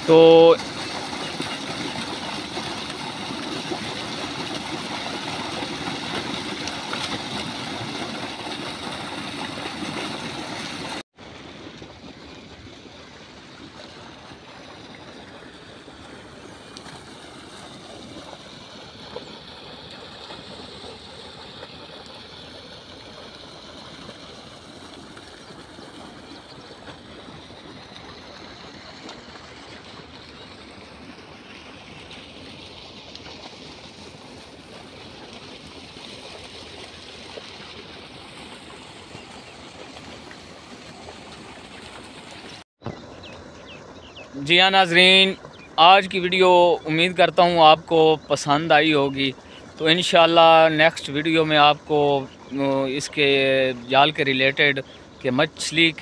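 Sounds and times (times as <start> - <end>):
water gushing into pond: 0.0 - 56.0.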